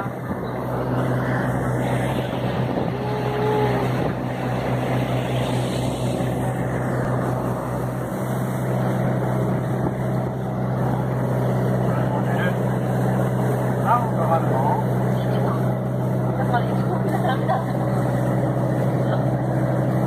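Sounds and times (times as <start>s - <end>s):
boat engine drone: 0.0s - 20.0s
rushing water: 0.0s - 20.0s
wind: 0.0s - 20.0s.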